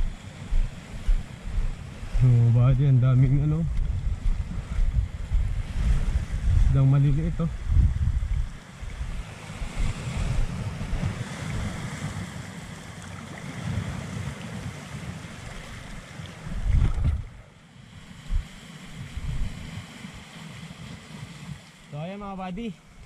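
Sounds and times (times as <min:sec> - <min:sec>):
wind buffeting microphone: 0:00.0 - 0:12.9, 0:13.5 - 0:21.6
small waves washing: 0:00.0 - 0:23.0.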